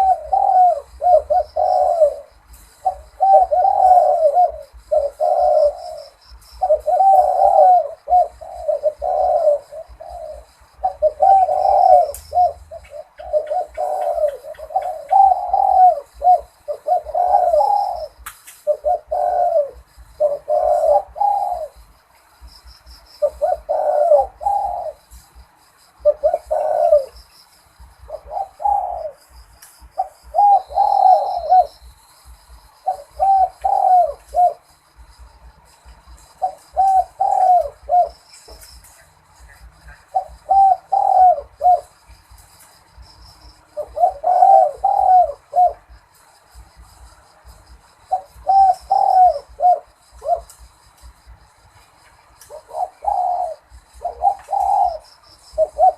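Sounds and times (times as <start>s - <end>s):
dove cooing: 0.0s - 51.4s, 52.1s - 55.9s.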